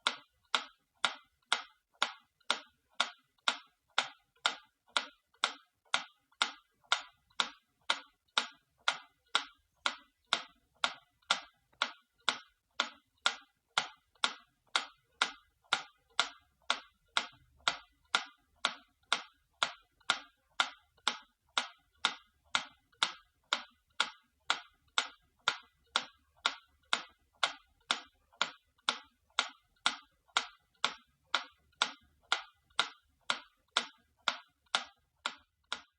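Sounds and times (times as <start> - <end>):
clock ticking: 0.0 - 35.9.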